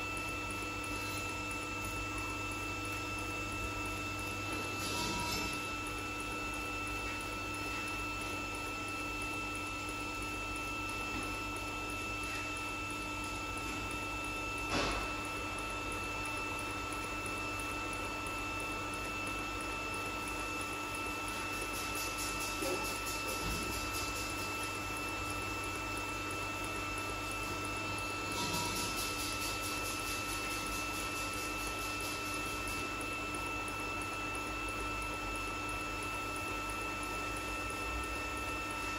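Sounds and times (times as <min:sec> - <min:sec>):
welding arc humming and hissing: 0:00.0 - 0:38.9.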